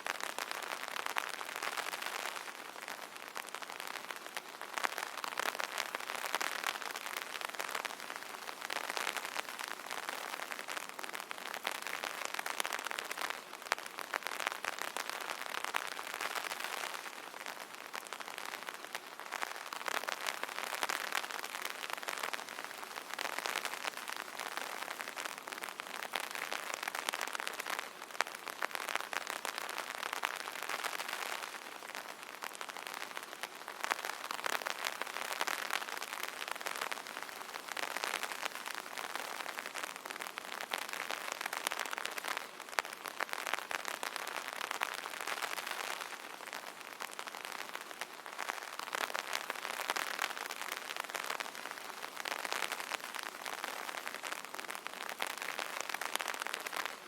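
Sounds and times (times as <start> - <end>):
rain pattering on umbrella: 0.0 - 57.0.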